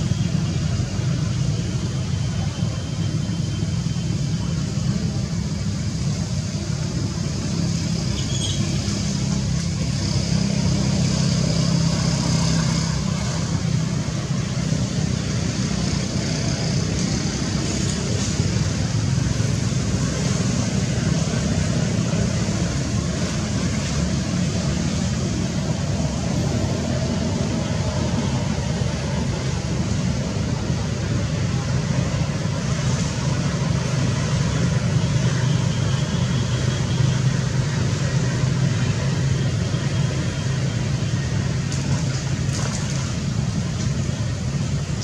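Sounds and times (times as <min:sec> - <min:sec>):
low rumbling background noise: 0:00.0 - 0:45.0.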